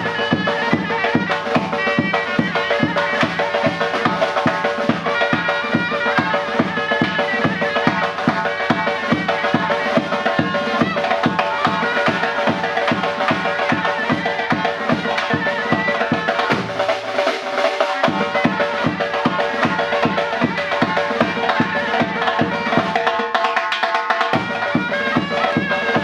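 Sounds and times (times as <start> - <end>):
shawm playing melody: 0.0 - 26.0
steady drum beat: 0.0 - 26.0.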